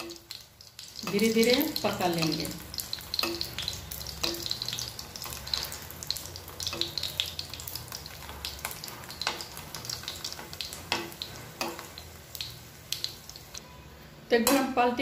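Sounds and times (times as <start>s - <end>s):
spoon ladling oil: 0.0s - 13.2s
hot oil sizzling and popping: 0.0s - 13.6s.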